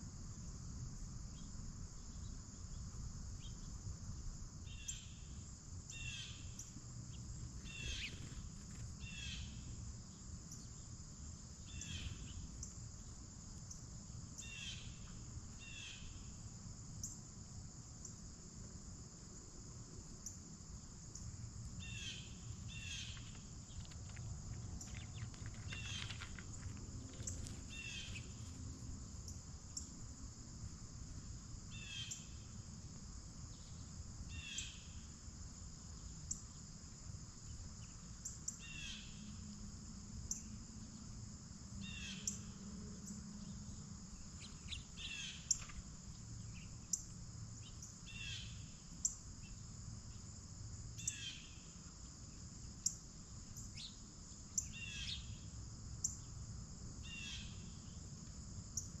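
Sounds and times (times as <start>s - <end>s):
insects chirring: 0.0s - 59.0s
sharp insect ticks: 0.7s - 59.0s.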